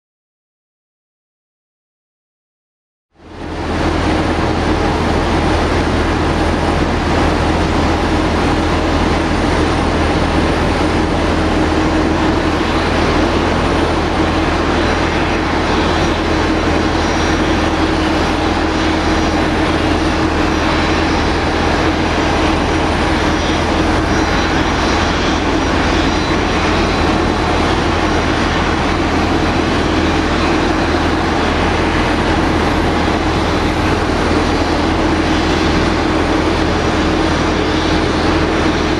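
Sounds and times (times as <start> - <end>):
jet airliner drone: 3.2 - 38.9.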